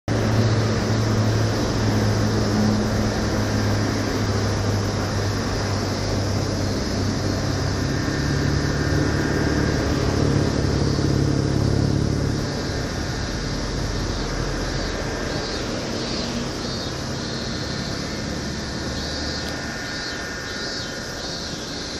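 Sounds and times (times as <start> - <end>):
even rushing noise: 0.1 - 21.9
low engine hum: 0.1 - 21.9.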